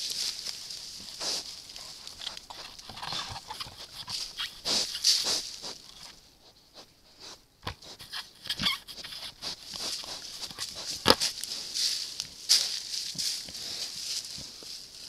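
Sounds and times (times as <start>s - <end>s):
boar snuffling and rustling: 0.0s - 15.0s.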